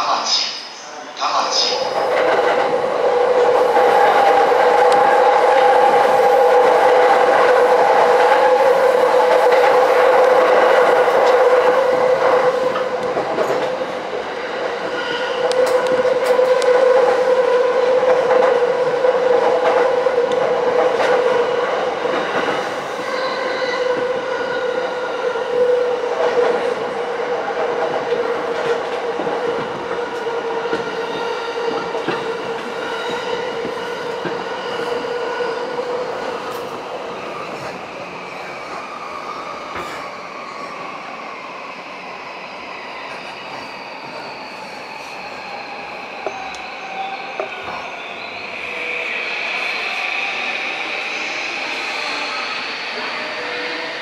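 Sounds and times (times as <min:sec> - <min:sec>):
train running noise: 0:00.0 - 0:40.9, 0:42.6 - 0:54.0
train whine: 0:00.0 - 0:54.0.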